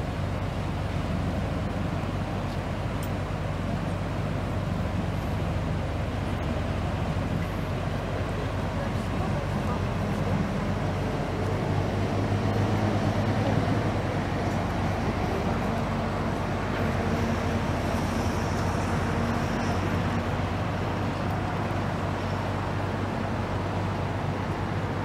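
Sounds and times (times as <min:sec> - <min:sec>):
boat diesel engine drone: 0:00.0 - 0:25.0.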